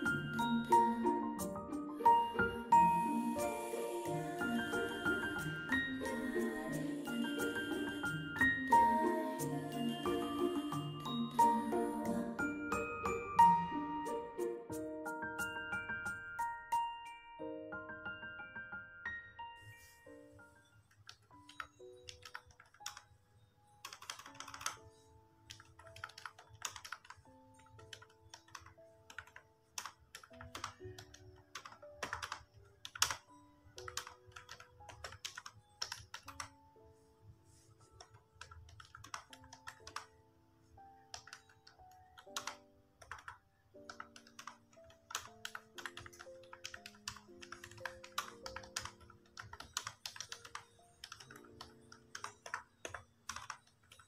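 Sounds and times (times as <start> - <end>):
soft background music: 0.0 - 54.0.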